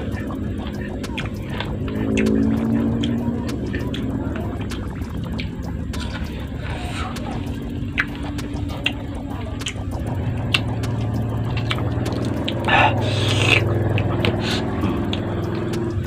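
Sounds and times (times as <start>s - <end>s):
person chewing: 0.0s - 4.0s, 4.6s - 15.7s
wet mouth smacking and clicks: 0.1s - 6.3s, 7.2s - 16.0s.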